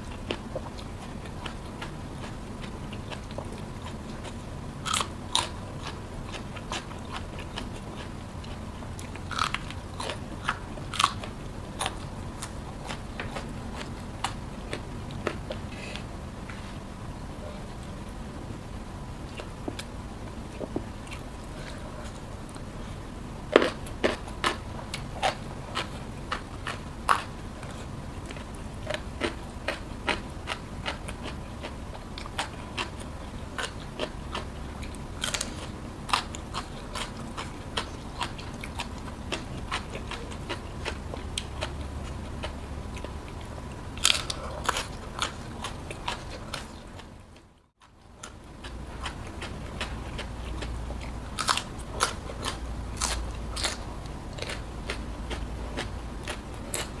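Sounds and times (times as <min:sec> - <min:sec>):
crunching and chewing food: 0:00.0 - 0:18.1, 0:19.2 - 0:57.0.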